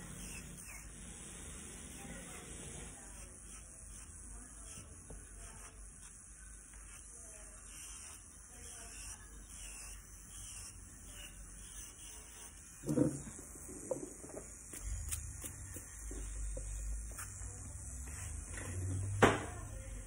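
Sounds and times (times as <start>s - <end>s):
faint distant voices: 1.4s - 20.0s.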